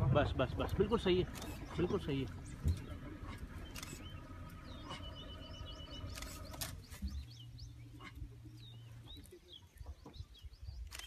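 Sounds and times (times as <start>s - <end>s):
low steady hum: 0.0s - 11.0s
wild birds chirping: 0.0s - 11.0s.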